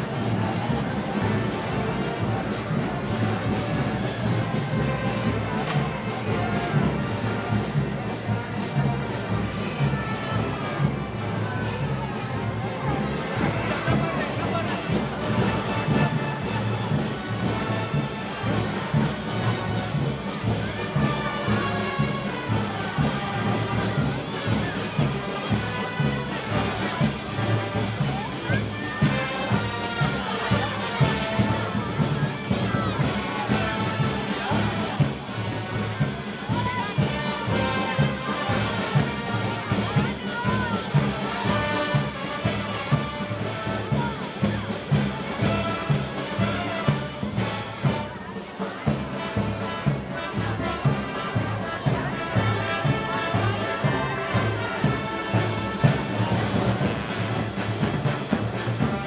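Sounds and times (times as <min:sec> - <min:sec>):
brass band playing festival music: 0:00.0 - 0:59.0
steady drum beat: 0:00.0 - 0:59.0.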